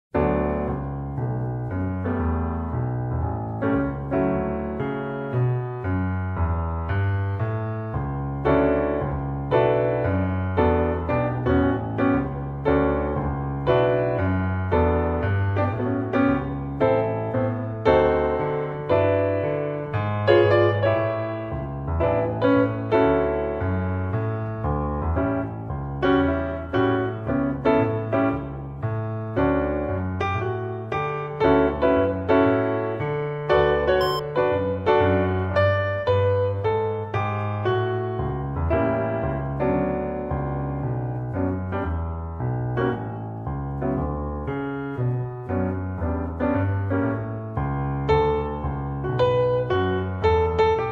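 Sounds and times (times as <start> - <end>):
slow solo piano song: 0.1 - 50.9.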